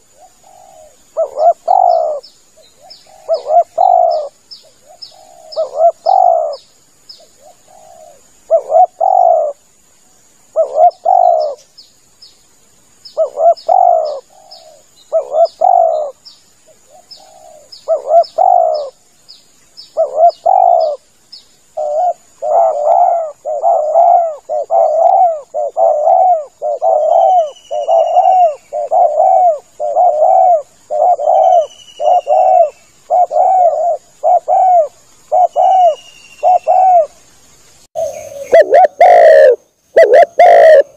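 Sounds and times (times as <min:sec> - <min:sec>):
dove cooing: 0:00.0 - 0:06.6, 0:07.3 - 0:09.6, 0:10.5 - 0:11.6, 0:13.2 - 0:19.0, 0:20.0 - 0:21.0, 0:21.8 - 0:37.2, 0:38.0 - 0:40.9
high insect-like hum: 0:00.0 - 0:40.9.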